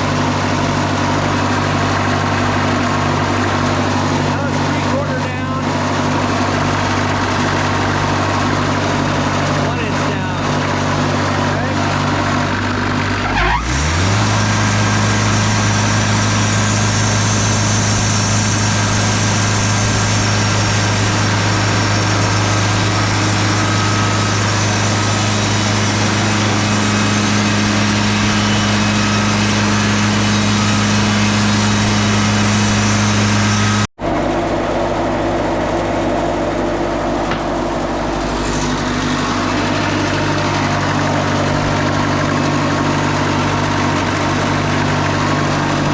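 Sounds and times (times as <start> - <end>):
bandsaw mill engine running: 0.0 - 45.9.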